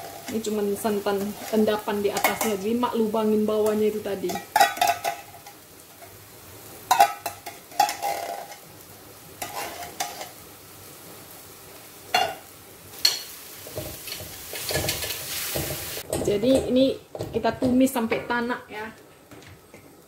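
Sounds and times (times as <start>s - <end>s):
spice paste sizzling in wok: 0.0s - 18.6s.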